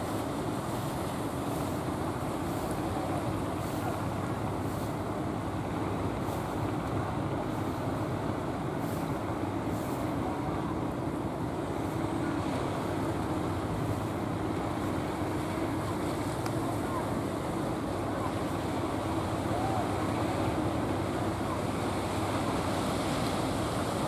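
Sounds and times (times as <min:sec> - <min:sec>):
choppy sea: 0:00.0 - 0:24.0
low engine drone: 0:00.0 - 0:24.0.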